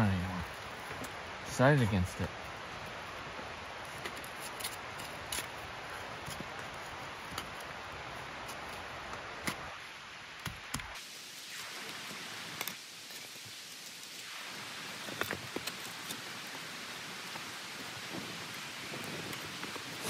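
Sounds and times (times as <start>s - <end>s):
campfire crackling and popping: 0.0s - 20.0s
river rushing: 0.0s - 20.0s.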